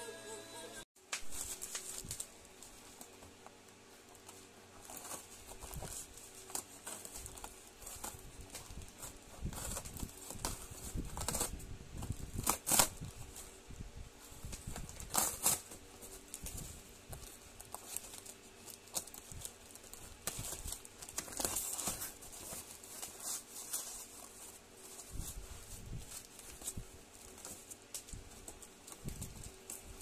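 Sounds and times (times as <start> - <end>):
plastic and cardboard crinkling: 1.1 - 30.0.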